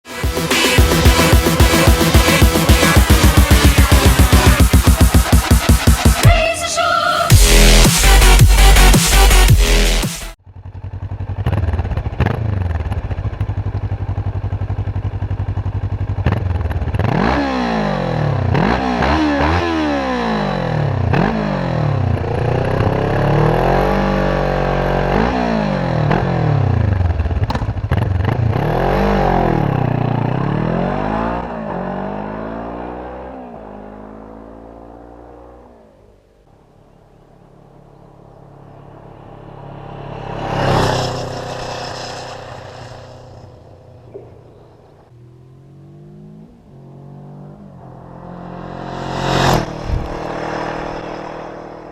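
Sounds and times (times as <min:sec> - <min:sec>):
motorcycle engine idling and revving: 0:00.0 - 0:06.4, 0:07.2 - 0:51.9.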